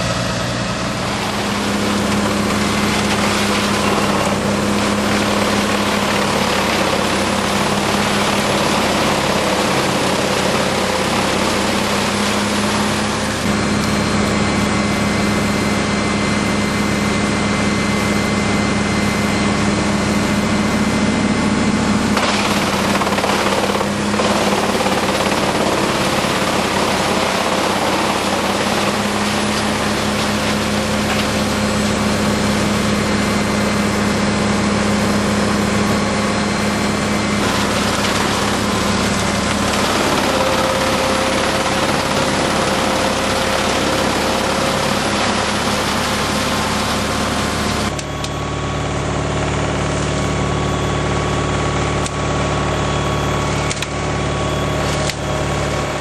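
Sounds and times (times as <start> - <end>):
wood chipper chipping branches: 0.0 - 17.0, 19.5 - 56.0
tractor engine under load: 0.0 - 56.0.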